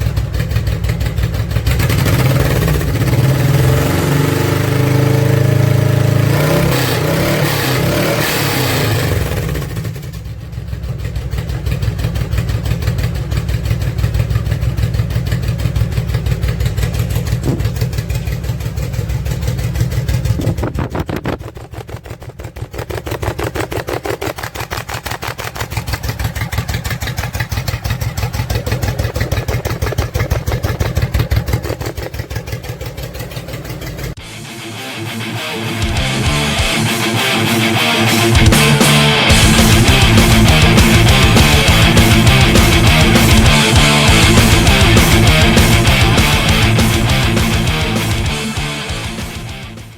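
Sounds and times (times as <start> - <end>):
motorcycle engine exhaust beat: 0.0 - 49.9.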